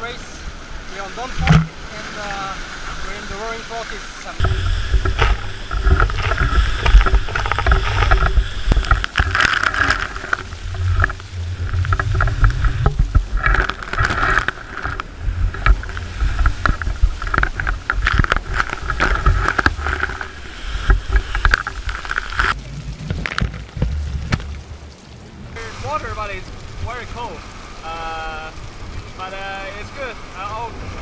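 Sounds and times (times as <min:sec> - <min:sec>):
water rushing against hull: 0:00.0 - 0:31.0
sharp hits of water: 0:01.1 - 0:02.5, 0:04.4 - 0:30.9
deep wind rumble: 0:04.4 - 0:31.0.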